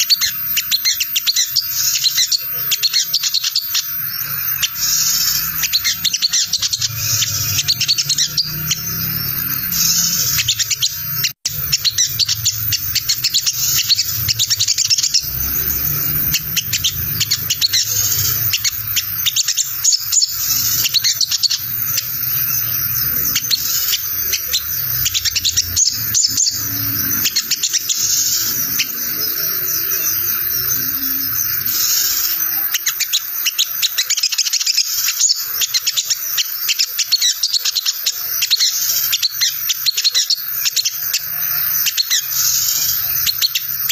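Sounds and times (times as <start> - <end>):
sunbird rapid high chirps: 0.0 - 43.9.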